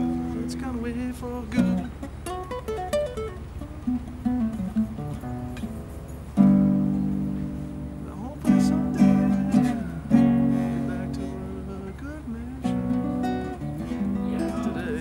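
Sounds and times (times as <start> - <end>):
classical guitar playing blues: 0.0 - 15.0.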